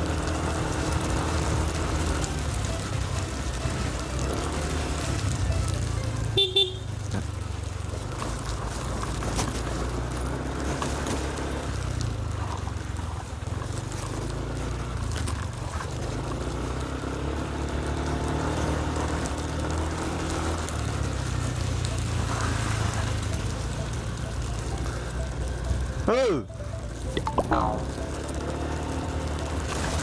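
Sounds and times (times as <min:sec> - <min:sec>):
road noise: 0:00.0 - 0:30.0
scooter engine cruising: 0:00.0 - 0:30.0.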